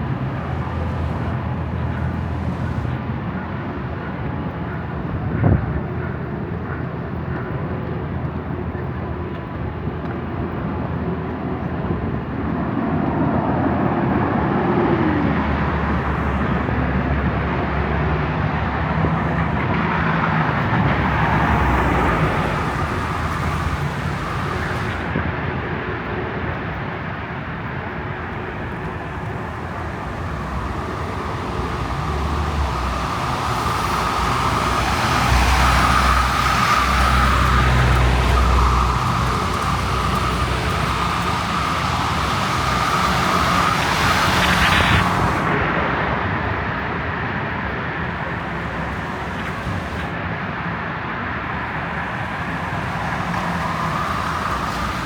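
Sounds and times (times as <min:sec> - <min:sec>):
wind noise: 0:00.0 - 0:03.5, 0:12.3 - 0:55.0
traffic rumble: 0:00.0 - 0:55.0
vehicles passing by: 0:00.0 - 0:55.0.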